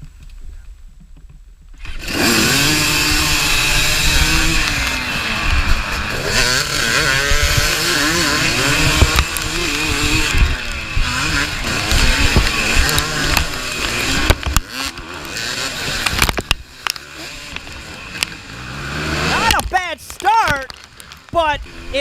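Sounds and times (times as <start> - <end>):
dirt bike engine revving: 1.8 - 22.0.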